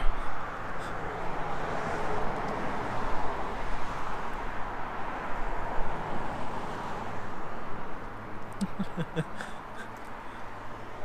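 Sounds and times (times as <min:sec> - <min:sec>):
roadside traffic rushing: 0:00.0 - 0:11.0.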